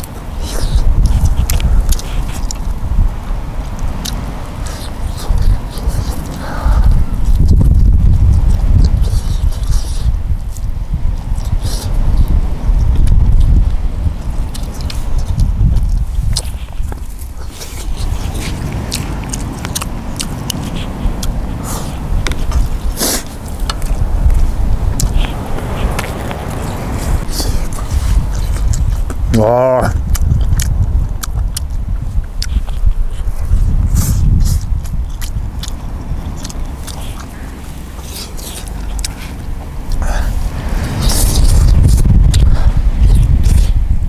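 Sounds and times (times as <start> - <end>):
chewing crunches: 0.0 - 43.8
steady low rumble: 0.0 - 44.0.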